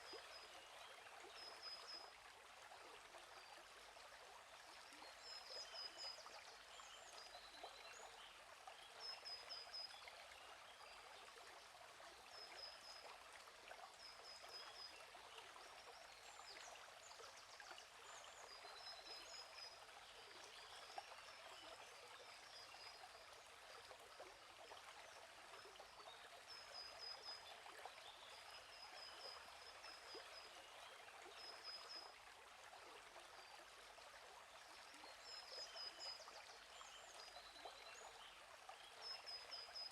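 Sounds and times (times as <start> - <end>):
gently running stream: 0.0 - 39.9.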